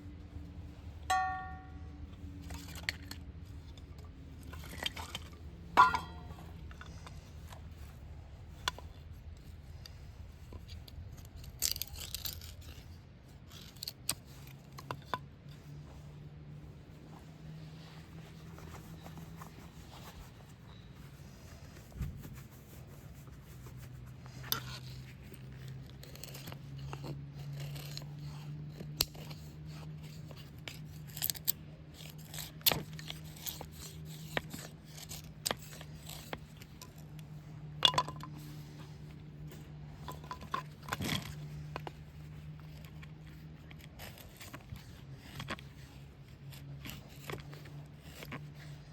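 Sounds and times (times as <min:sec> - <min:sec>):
small objects being handled: 0:01.0 - 0:48.9.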